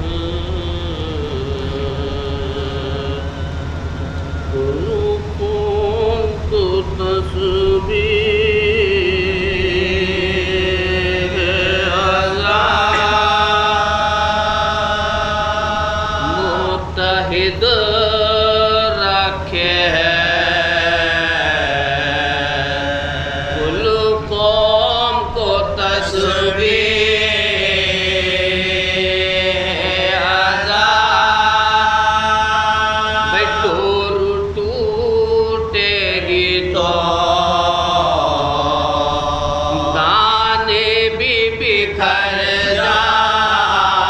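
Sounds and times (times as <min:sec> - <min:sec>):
men chanting in chorus: 0:04.5 - 0:44.0.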